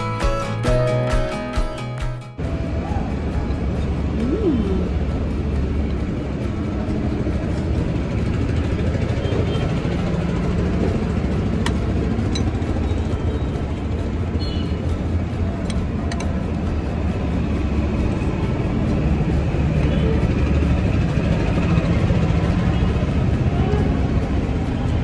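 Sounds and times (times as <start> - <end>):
background music: 0.0 - 25.0
indistinct chatter: 2.4 - 25.0.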